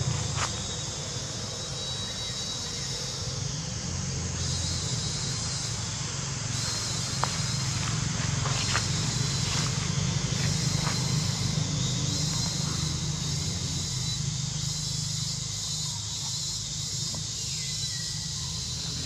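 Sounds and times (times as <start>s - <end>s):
high hiss: 0.0s - 19.0s.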